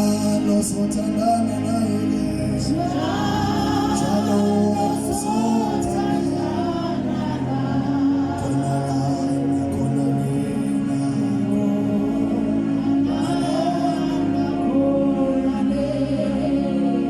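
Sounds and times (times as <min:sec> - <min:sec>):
instrumental backing of held notes: 0:00.0 - 0:17.0
voices singing a hymn: 0:00.0 - 0:17.0.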